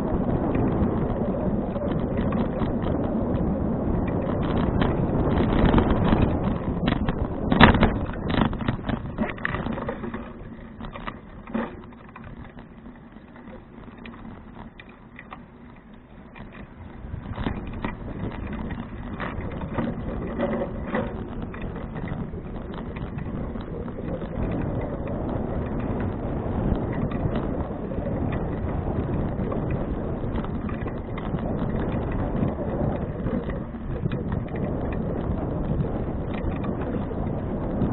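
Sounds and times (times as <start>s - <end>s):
bicycle frame clicks and rattles: 0.0s - 37.9s
tyre and road rumble: 0.0s - 37.9s
wind buffeting microphone: 0.0s - 37.9s.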